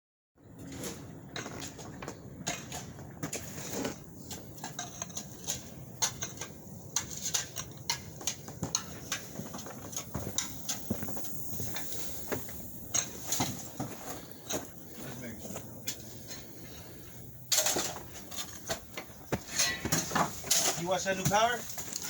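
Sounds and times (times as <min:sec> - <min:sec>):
low steady background noise: 0:00.4 - 0:22.0.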